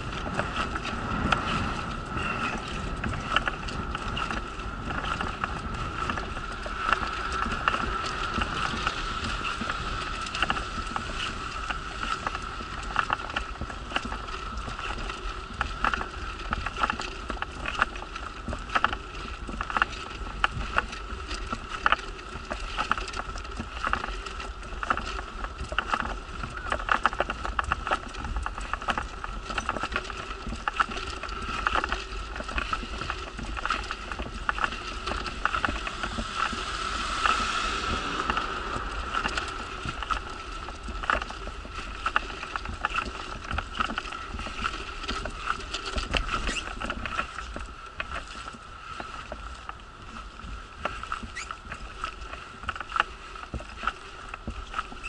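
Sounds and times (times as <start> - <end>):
wheelchair rattling and knocking: 0.0 - 48.6
wheelchair wheels whining: 0.0 - 55.0.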